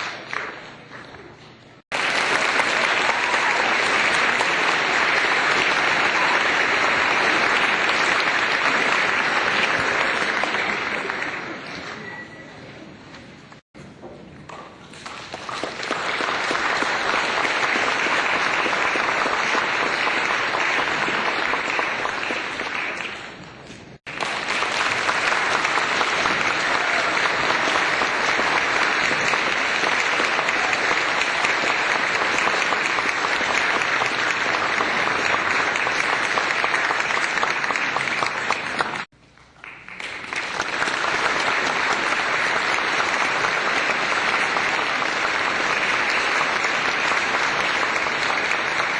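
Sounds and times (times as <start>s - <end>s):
crowd clapping: 0.0s - 12.5s, 14.5s - 48.9s.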